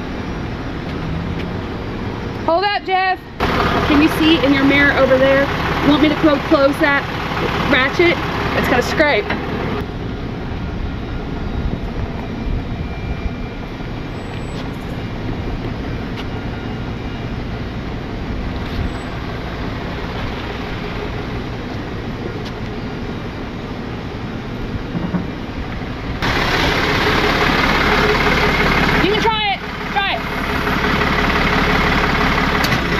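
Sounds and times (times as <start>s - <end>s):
tow truck engine running: 0.0s - 32.9s.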